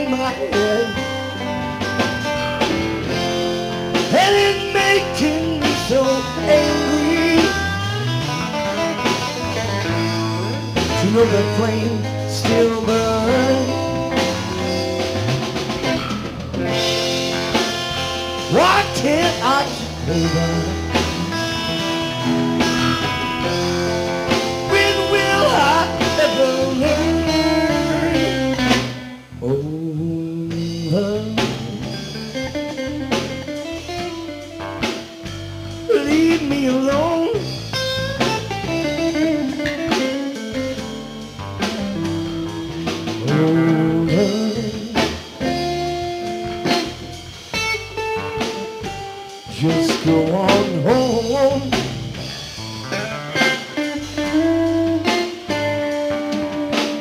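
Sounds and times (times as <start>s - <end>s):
lead guitar bending pitch: 0.0s - 29.4s, 30.6s - 57.0s
blues rock band playing: 0.0s - 57.0s.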